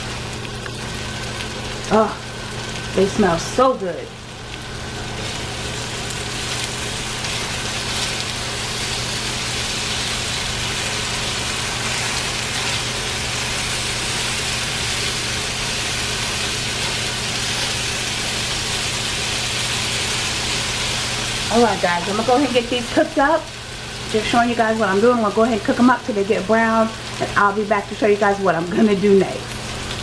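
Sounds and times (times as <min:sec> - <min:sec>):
potatoes sizzling in a pan: 0:00.0 - 0:30.0.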